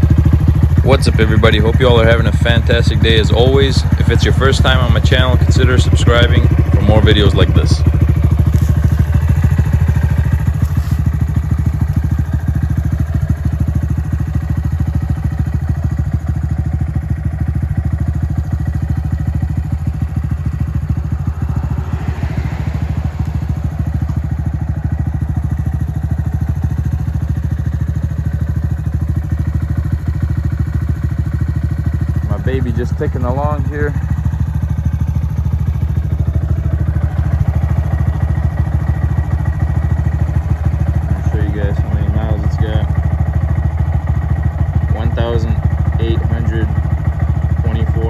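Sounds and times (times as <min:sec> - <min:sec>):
motorcycle engine idling: 0:00.0 - 0:48.0.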